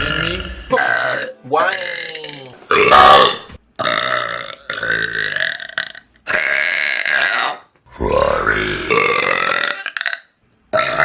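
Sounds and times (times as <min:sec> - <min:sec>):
person burping: 0:00.0 - 0:11.0.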